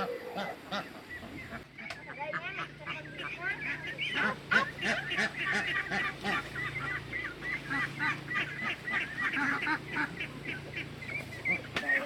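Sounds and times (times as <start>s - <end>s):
steady low hum: 0.0s - 12.0s
waterfowl calling: 0.0s - 12.0s.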